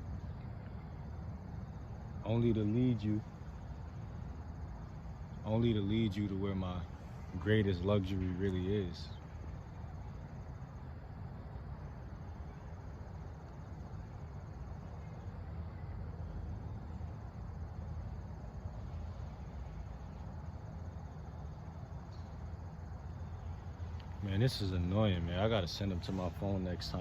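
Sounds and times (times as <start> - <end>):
high pulsing insect trill: 0.0 - 27.0
low background hum: 0.0 - 27.0.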